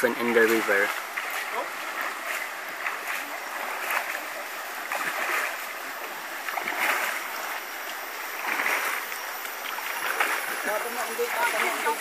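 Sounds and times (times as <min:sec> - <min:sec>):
moving water wash: 0:00.0 - 0:12.0
water splashing: 0:00.0 - 0:12.0.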